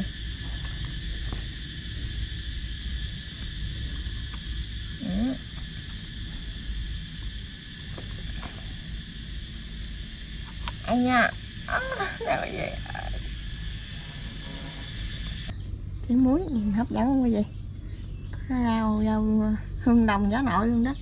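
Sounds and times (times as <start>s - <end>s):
low rumble: 0.0s - 20.8s
high-pitched insect chorus: 0.0s - 21.0s.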